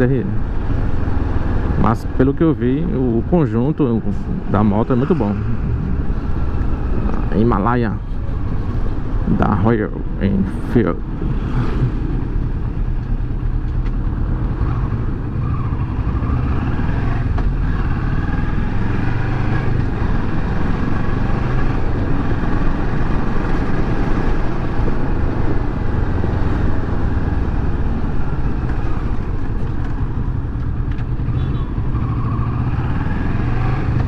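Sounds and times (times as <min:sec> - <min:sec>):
tyre and road noise: 0:00.0 - 0:34.0.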